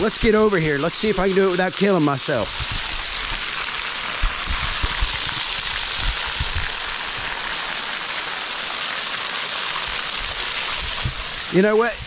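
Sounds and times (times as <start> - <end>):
waterfall splashing onto rock: 0.0 - 12.0.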